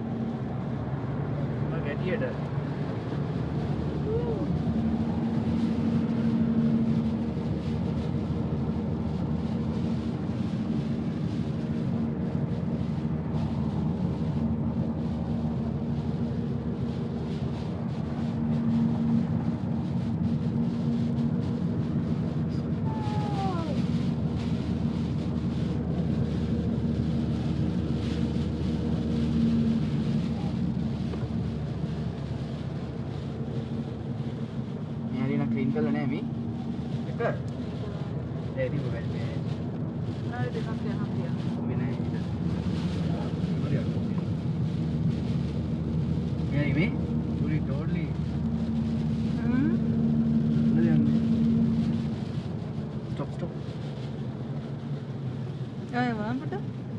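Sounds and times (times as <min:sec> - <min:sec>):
car driving with snow chains: 0:00.0 - 0:56.9.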